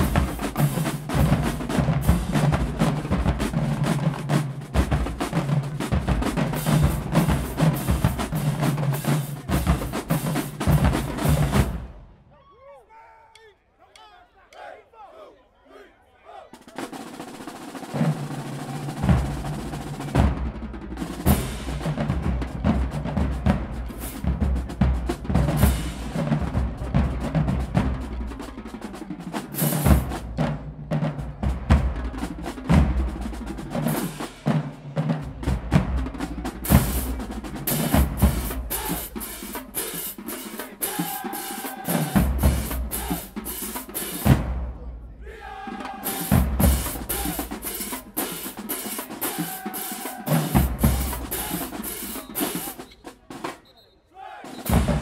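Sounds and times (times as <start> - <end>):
snare drum patterns: 0.0 - 12.0, 16.4 - 55.0.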